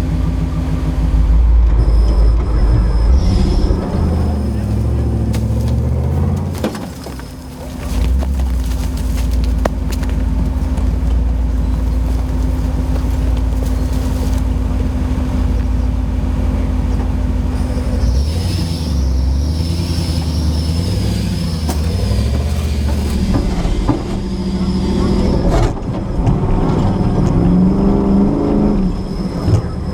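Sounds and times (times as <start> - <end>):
high whine: 0.0 - 26.2
car engine running: 0.0 - 29.9.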